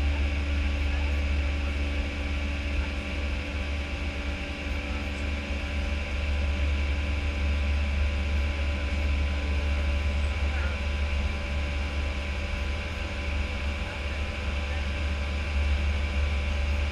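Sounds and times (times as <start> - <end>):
low even cockpit hum: 0.0 - 16.9.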